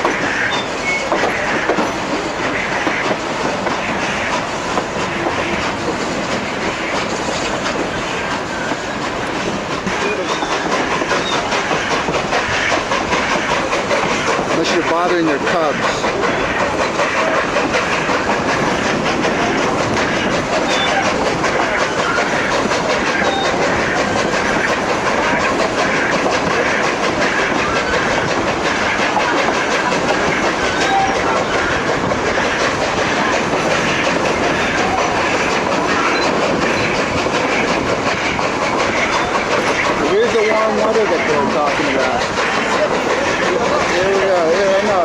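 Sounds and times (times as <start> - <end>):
train wheels on rails: 0.0 - 45.0.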